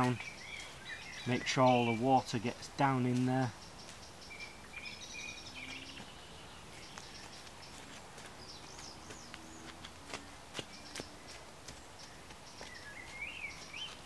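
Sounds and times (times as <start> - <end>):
birds singing: 0.0 - 14.0.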